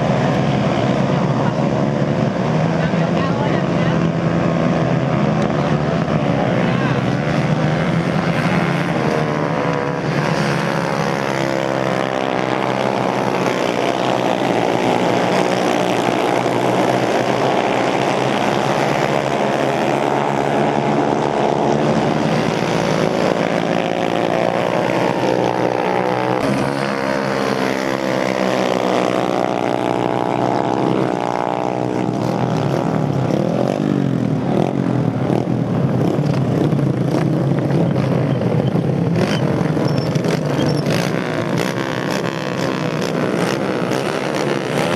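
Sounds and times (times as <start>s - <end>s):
racing motorcycle engines: 0.0s - 44.9s.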